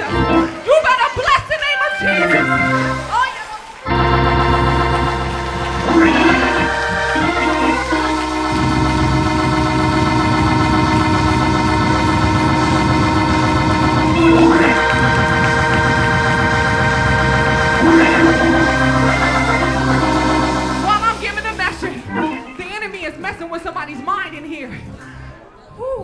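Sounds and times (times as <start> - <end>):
organ chords: 0.0 - 0.7, 1.9 - 3.2, 3.8 - 22.9.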